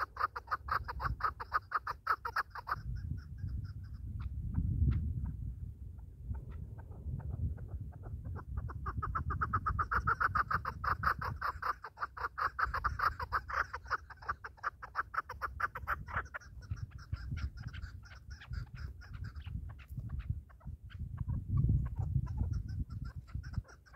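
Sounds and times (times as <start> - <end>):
partridge clucking call: 0.0 - 5.4, 6.0 - 23.9.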